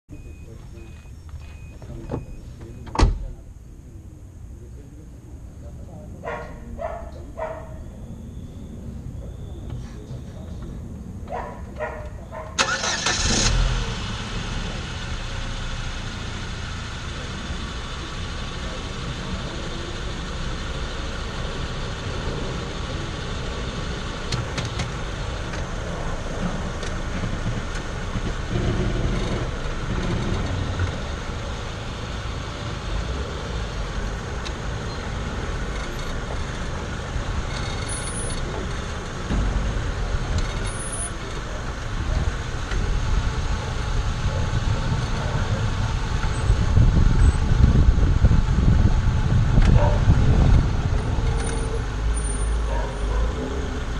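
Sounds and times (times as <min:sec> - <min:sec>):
car engine starting and idling: 0:00.1 - 0:05.4, 0:06.2 - 0:53.9.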